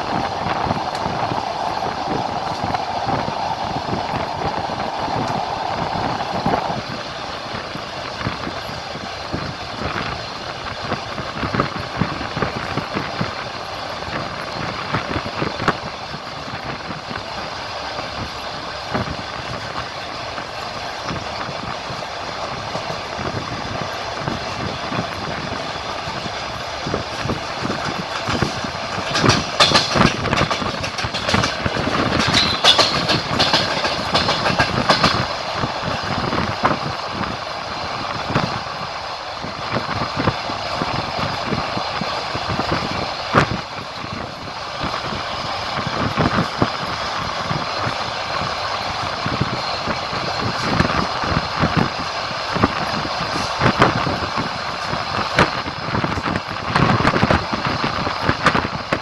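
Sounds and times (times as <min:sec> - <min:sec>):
train rolling rumble: 0:00.0 - 0:59.0
train wheels clacking over rail joints: 0:00.0 - 0:59.0.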